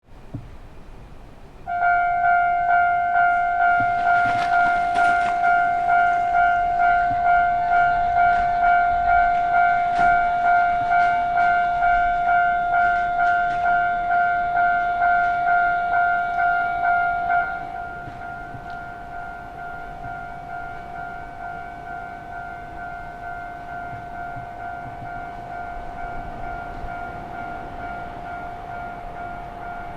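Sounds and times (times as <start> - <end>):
level-crossing warning bell: 1.6 - 29.9.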